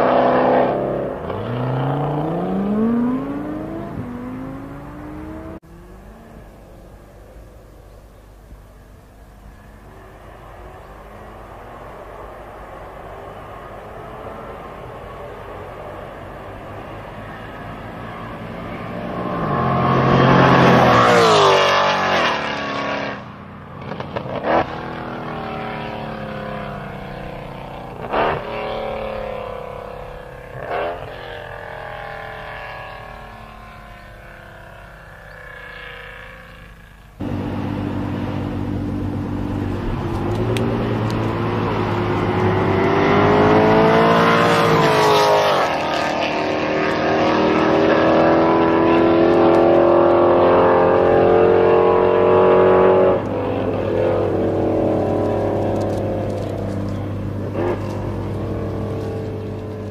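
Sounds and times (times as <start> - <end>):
drag racing cars at full throttle: 0.0 - 59.9.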